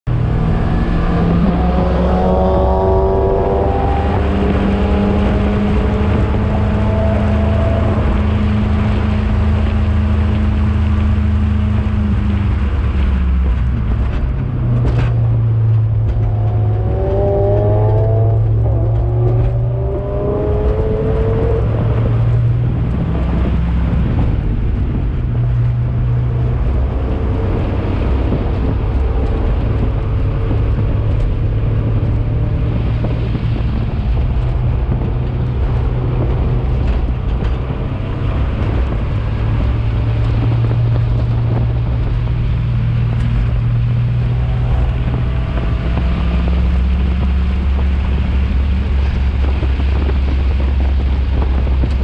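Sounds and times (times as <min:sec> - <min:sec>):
race car engine at full throttle: 0:00.0 - 0:52.0.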